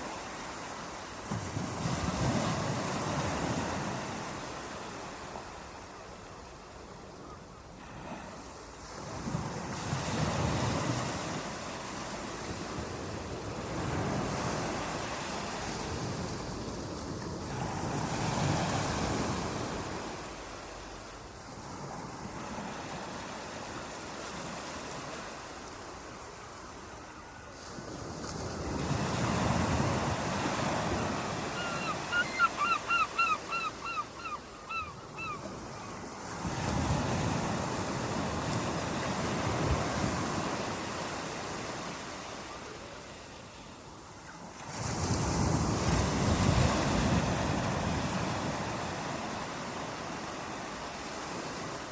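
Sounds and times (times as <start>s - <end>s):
ocean waves washing onto shore: 0.0s - 7.0s, 7.7s - 51.9s.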